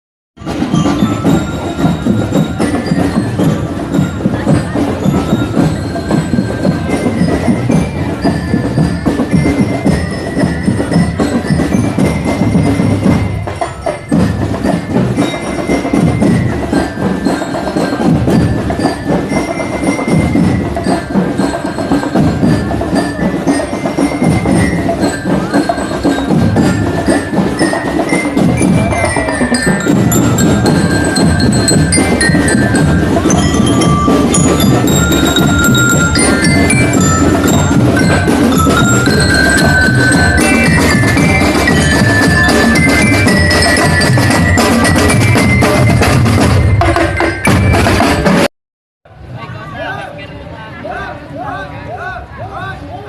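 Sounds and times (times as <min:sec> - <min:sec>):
glockenspiel melody: 0:00.4 - 0:48.5
snare and bass drums: 0:00.4 - 0:48.5.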